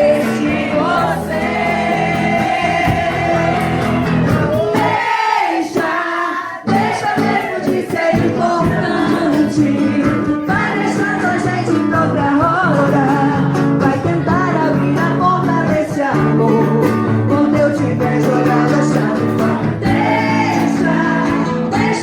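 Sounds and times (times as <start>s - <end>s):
song with sung vocals and band: 0.0s - 22.0s.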